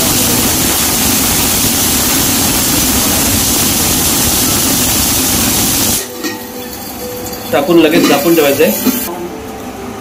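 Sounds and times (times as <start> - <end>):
range hood exhaust fan rushing: 0.0 - 10.0.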